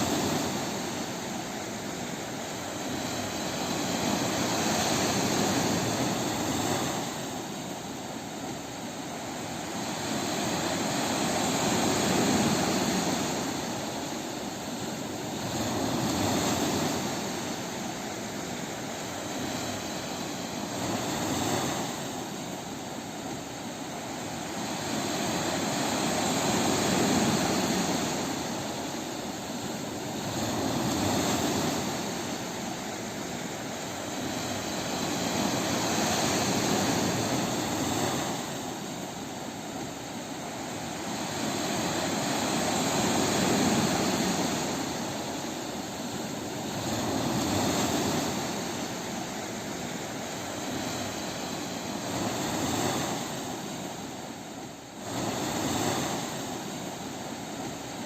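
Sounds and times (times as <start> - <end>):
ocean waves on a beach: 0.0 - 58.0.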